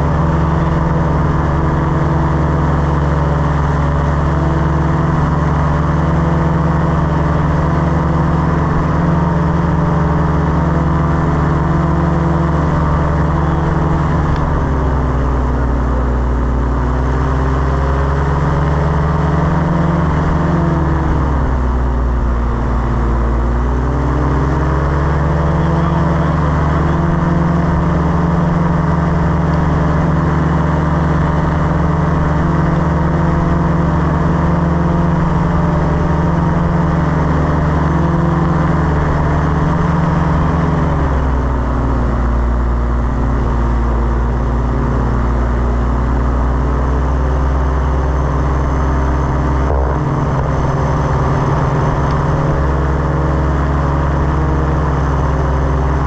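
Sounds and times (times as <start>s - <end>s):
paramotor engine drone: 0.0s - 56.0s.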